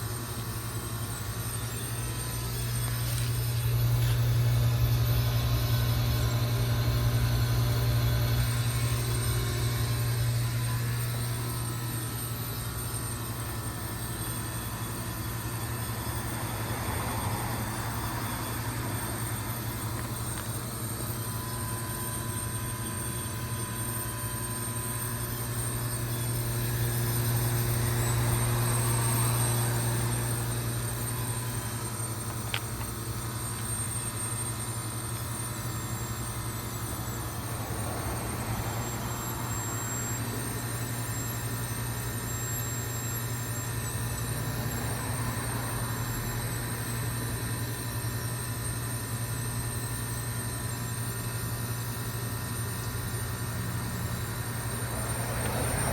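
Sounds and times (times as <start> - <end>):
heat pump compressor hum: 0.0 - 55.9.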